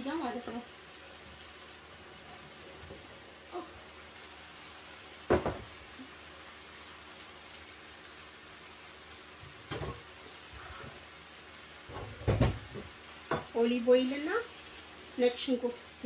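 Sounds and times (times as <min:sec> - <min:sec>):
sauce sizzling in a frying pan: 0:00.0 - 0:16.0.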